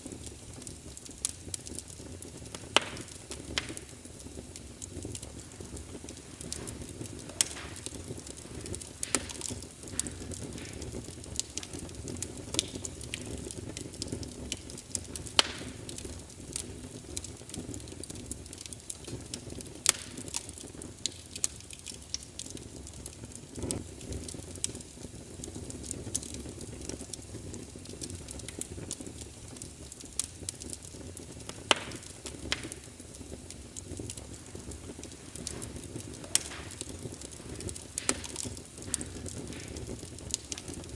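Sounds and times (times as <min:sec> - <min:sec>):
fire crackling and popping: 0:00.0 - 0:40.9
fire flames rumbling: 0:00.0 - 0:40.9.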